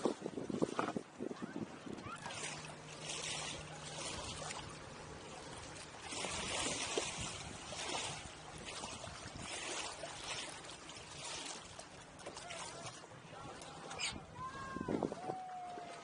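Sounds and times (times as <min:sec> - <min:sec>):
water splashing along boat hull: 0:00.0 - 0:16.0.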